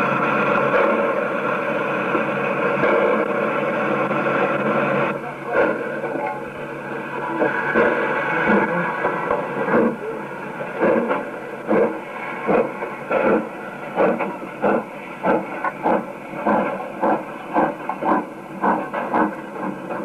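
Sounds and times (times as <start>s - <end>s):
steam hissing: 0.0s - 20.0s
steam locomotive chuffing: 0.0s - 20.0s.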